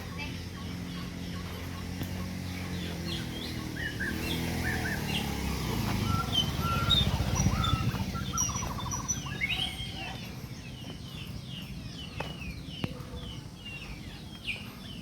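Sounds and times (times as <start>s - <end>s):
birds chirping and whistling: 0.0s - 15.0s.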